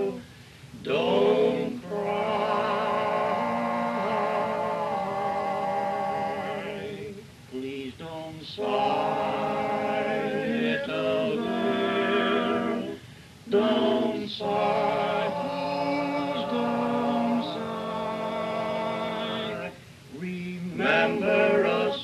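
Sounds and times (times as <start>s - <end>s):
men singing in close harmony: 0.0s - 0.2s, 0.8s - 22.0s.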